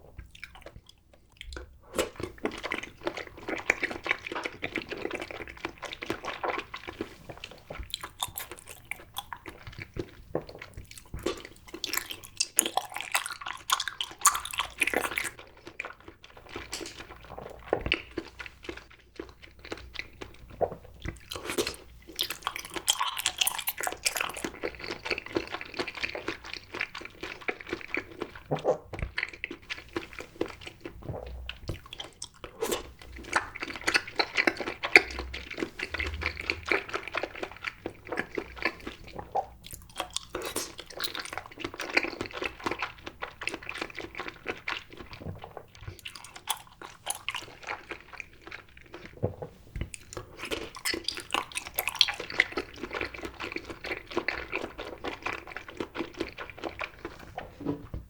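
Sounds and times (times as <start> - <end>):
wet chewing of jelly: 0.0 - 58.0.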